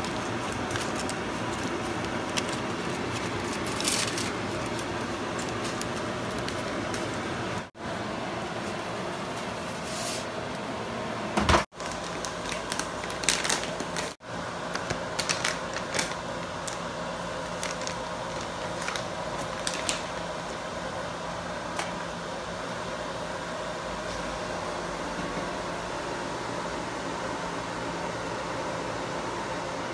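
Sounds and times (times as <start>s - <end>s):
appliance hum: 0.0s - 29.9s.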